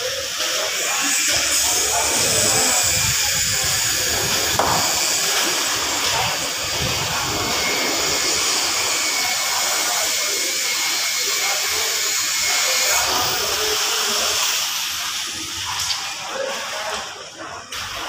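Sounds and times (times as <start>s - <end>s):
concrete pump drone: 0.0s - 18.0s.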